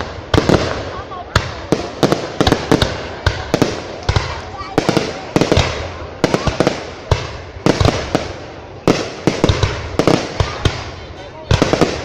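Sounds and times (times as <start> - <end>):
fireworks bangs with crackling: 0.0 - 12.0.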